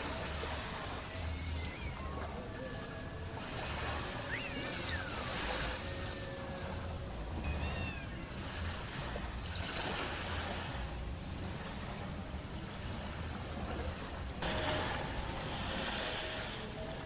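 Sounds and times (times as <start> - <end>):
low uneven ship rumble: 0.0 - 17.0
sea noise: 0.0 - 17.0
wind: 0.0 - 17.0.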